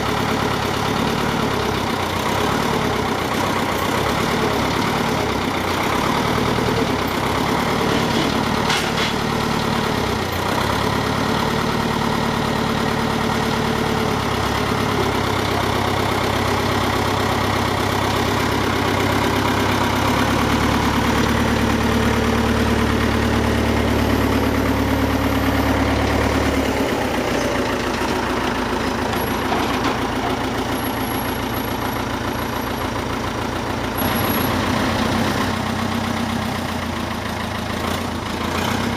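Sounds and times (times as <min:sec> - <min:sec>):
heavy vehicle engine idling: 0:00.0 - 0:38.9.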